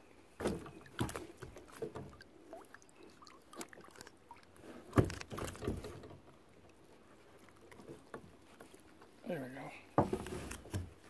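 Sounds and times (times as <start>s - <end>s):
water dripping and sloshing: 0.3s - 9.2s.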